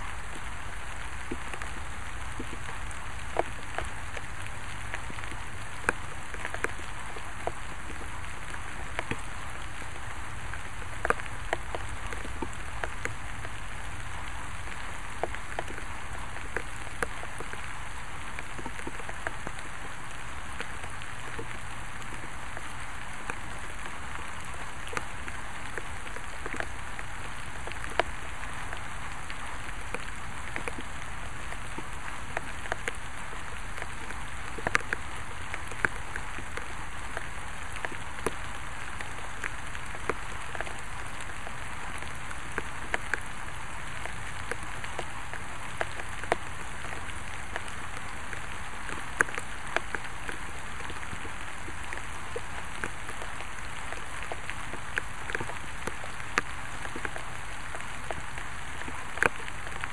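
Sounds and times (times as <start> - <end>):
raindrops ticking on a surface: 0.0 - 59.9
steady rain falling: 0.0 - 59.9.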